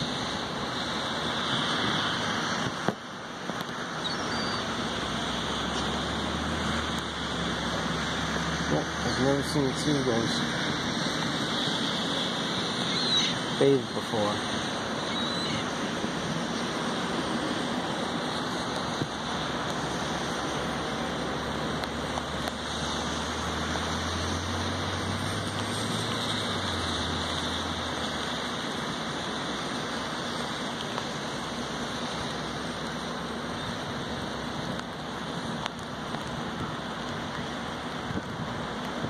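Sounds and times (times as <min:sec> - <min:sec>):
rain hissing: 0:00.0 - 0:39.0.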